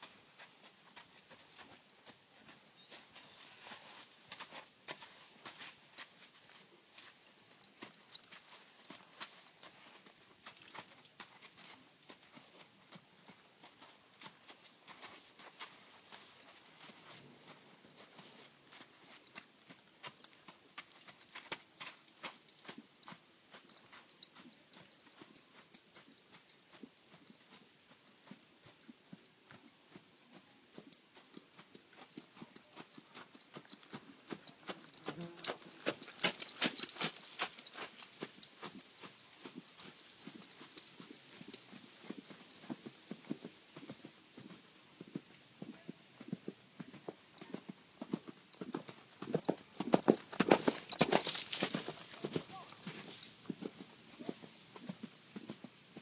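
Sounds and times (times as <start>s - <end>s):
horse hoofbeats: 0.0s - 56.0s.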